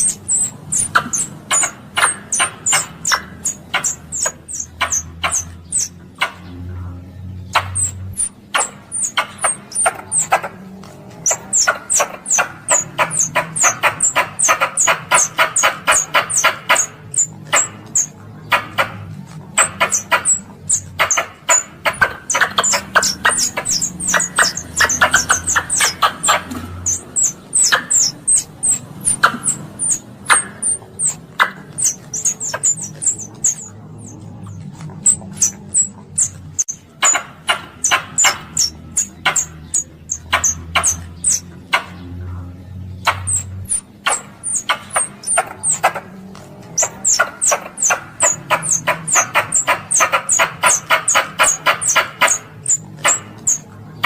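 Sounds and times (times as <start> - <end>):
squirrel chattering: 0.0 - 54.0.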